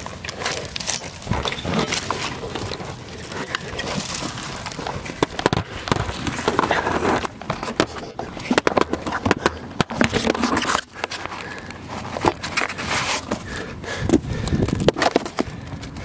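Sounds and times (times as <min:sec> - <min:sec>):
footsteps and scuffing: 0:00.0 - 0:16.0.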